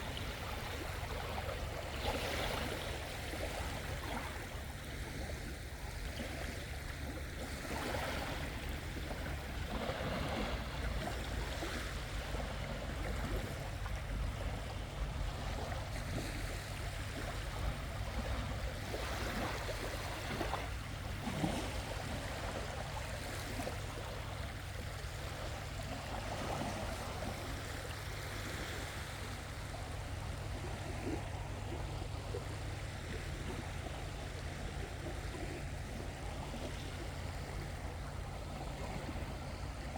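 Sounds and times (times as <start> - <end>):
constant low rumble: 0.0 - 39.9.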